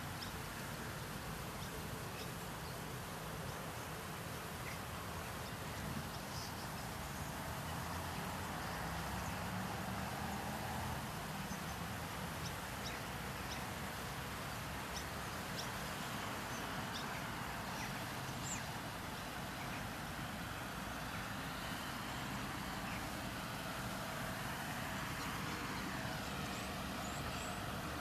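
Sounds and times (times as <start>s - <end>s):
distant road traffic hum: 0.0s - 28.0s.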